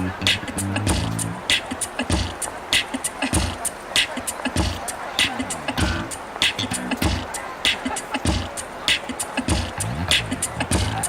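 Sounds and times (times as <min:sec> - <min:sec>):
drum kit playing a steady beat: 0:00.0 - 0:11.0.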